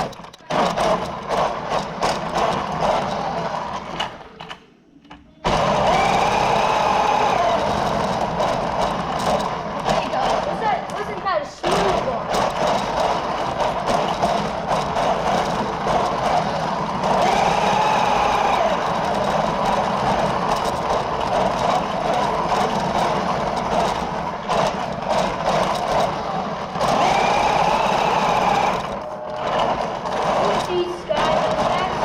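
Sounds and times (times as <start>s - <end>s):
rc car motor whine: 5.4s - 32.0s.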